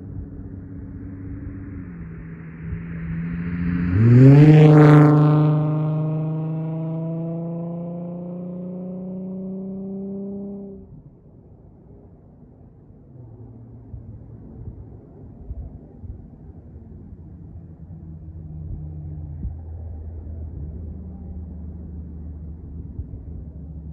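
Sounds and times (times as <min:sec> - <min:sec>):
car exhaust accelerating past: 0:00.0 - 0:11.2, 0:13.0 - 0:23.9.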